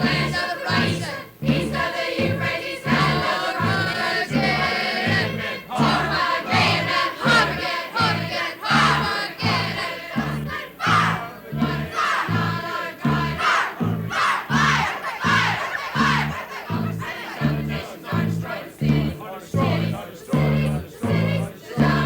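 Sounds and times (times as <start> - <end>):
band music: 0.0 - 22.0
choir singing and shouting: 0.0 - 22.0
low steady beat: 0.0 - 22.0.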